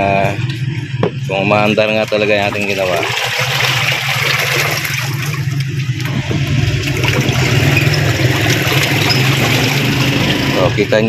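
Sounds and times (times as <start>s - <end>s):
washing machine motor hum: 0.0s - 11.0s
water sloshing in tub: 0.2s - 10.6s.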